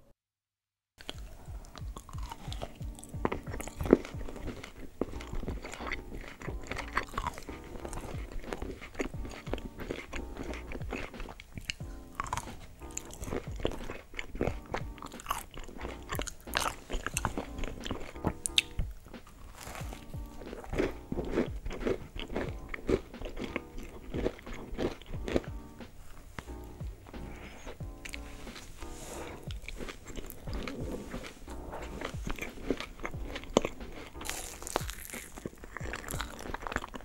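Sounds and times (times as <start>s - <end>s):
background music: 1.0s - 37.0s
crunching and chewing sweets: 1.0s - 37.0s.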